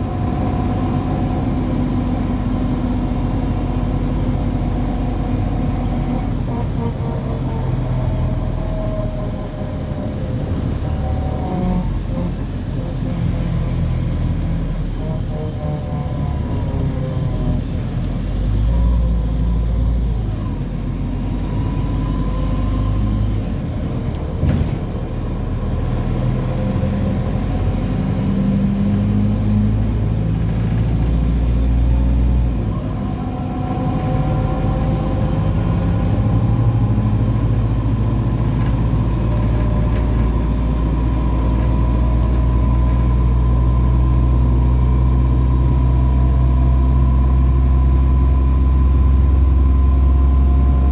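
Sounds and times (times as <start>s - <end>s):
bus engine drone: 0.0s - 50.9s.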